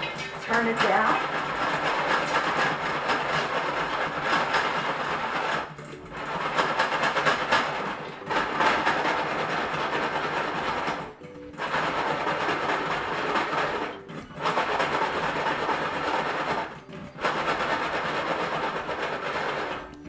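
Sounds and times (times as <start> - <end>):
popcorn popping: 0.0 - 20.0
pot and lid rattling and scraping: 0.0 - 20.0.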